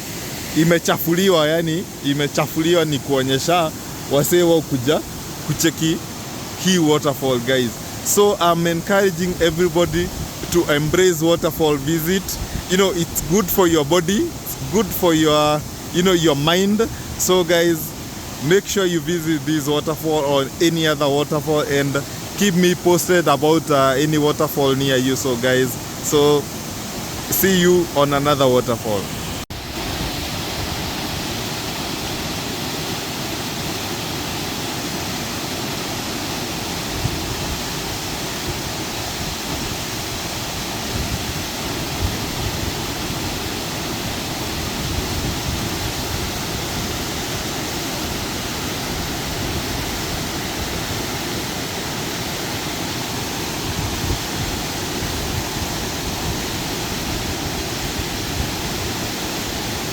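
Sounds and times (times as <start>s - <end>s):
waterfall crashing into pool: 0.0s - 59.9s.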